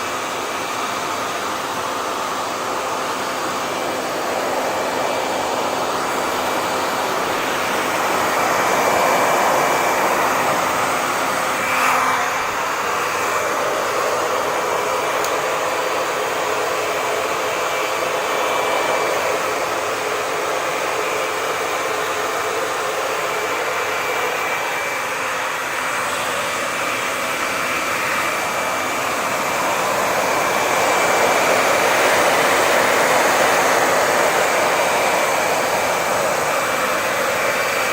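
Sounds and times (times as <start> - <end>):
hair dryer blowing air: 0.0 - 37.9.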